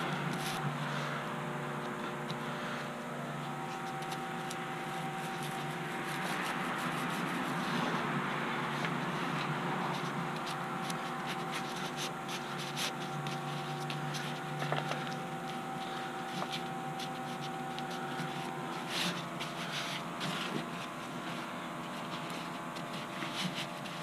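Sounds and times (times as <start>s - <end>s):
brush rubbing on canvas: 0.0s - 1.0s, 3.5s - 24.0s
steady background hum: 0.0s - 24.0s.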